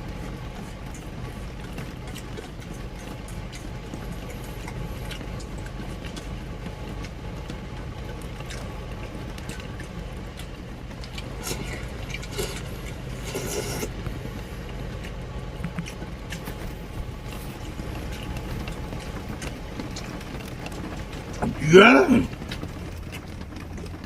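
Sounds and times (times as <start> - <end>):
rain pattering on van: 0.0 - 13.3, 13.9 - 24.0.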